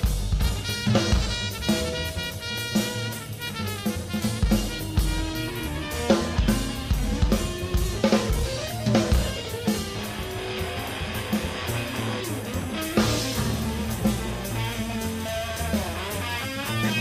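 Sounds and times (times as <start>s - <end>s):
bass guitar: 0.0s - 17.0s
drum kit: 0.0s - 17.0s
guitar: 0.0s - 17.0s.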